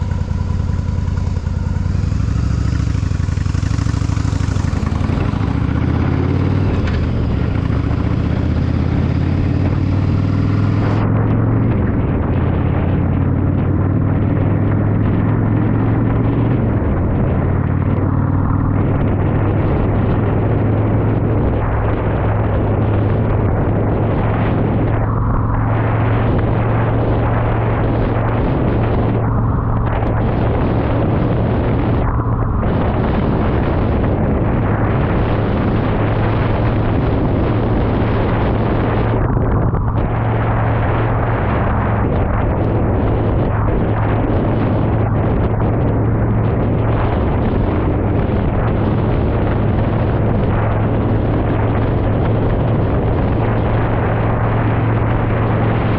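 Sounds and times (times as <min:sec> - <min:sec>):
motorcycle engine droning: 0:00.0 - 0:55.9
wind and road noise: 0:00.0 - 0:55.9.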